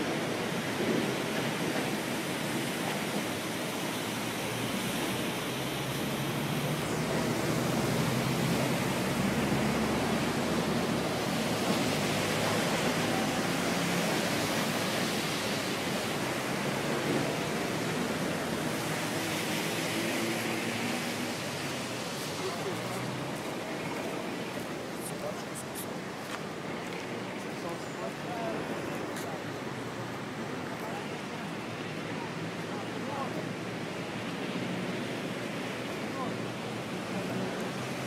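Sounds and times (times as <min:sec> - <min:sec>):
steady rushing noise: 0:00.0 - 0:38.0.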